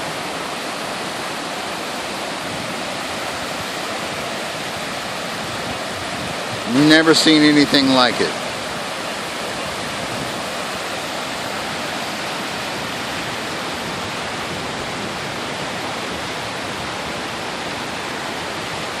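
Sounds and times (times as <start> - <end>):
floodwater rushing down creek: 0.0 - 19.0.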